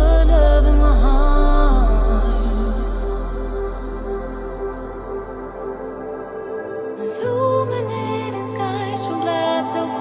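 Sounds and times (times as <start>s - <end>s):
ambient synthesizer music: 0.0s - 10.0s.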